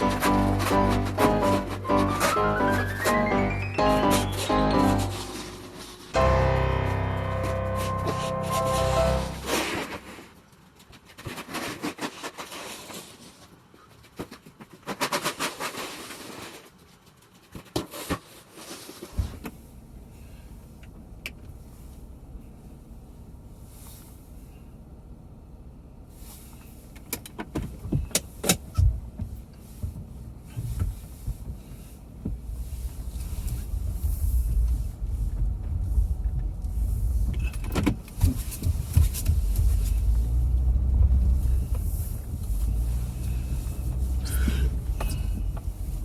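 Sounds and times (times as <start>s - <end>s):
car low rumble: 0.0s - 10.1s, 19.2s - 46.0s.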